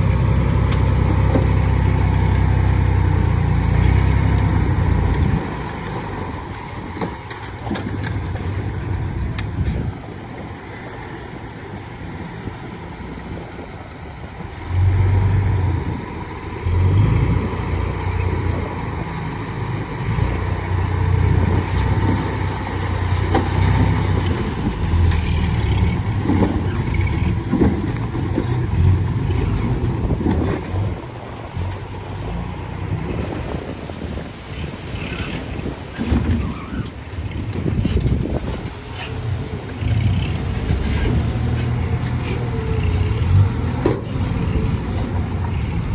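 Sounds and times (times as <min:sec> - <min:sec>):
heavy diesel engine running: 0:00.0 - 0:36.3, 0:37.0 - 0:45.9.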